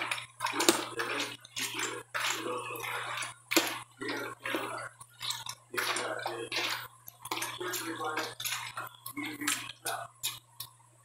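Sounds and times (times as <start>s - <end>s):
hands squelching meat in marinade: 0.0s - 10.4s.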